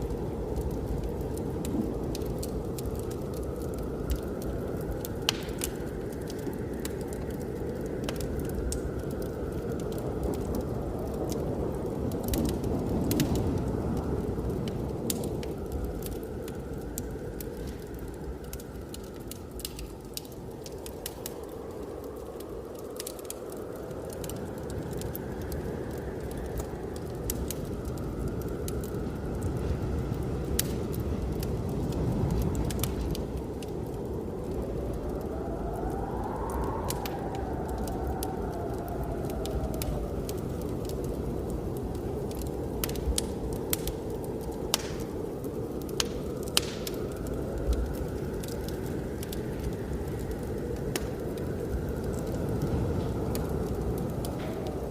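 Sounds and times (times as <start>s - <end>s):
blizzard wind rushing: 0.0s - 54.9s
fire pops: 0.0s - 54.9s
wood fire crackling: 0.0s - 54.9s.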